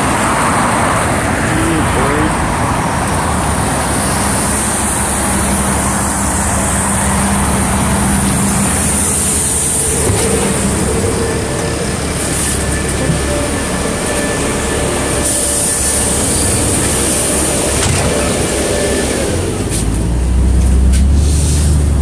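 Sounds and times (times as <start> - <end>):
diesel bus idling: 0.0 - 22.0.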